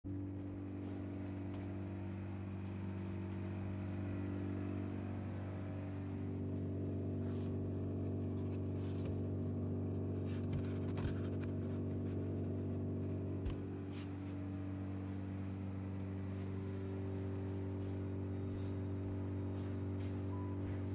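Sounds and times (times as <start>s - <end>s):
low machine hum: 0.1s - 20.9s.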